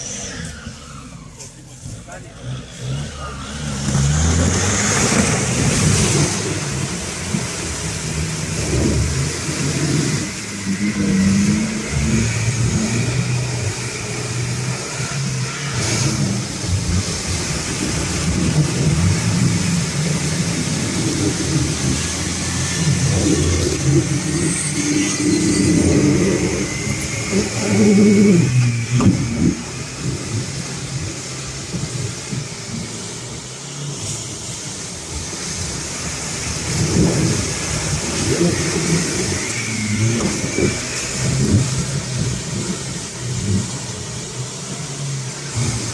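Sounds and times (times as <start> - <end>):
diesel engine revving: 0.0 - 45.9
vehicle churning through mud: 0.0 - 45.9.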